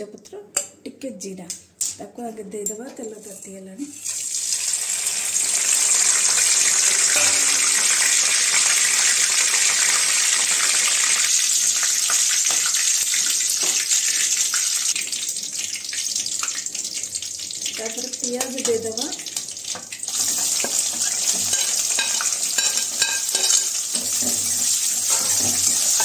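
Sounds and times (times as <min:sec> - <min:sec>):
spices sizzling in oil: 0:03.9 - 0:26.0.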